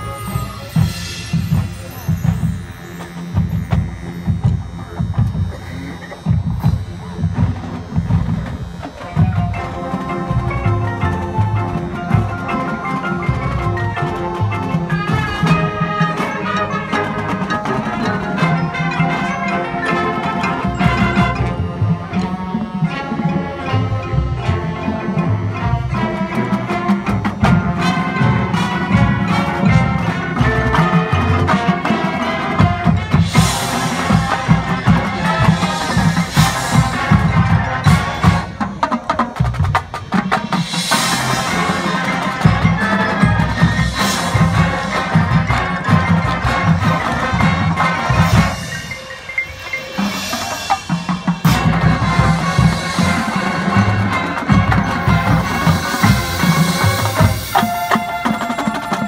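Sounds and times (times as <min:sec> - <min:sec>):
brass: 0:00.0 - 0:59.0
drums: 0:00.0 - 0:59.0
marimbas: 0:00.0 - 0:59.0.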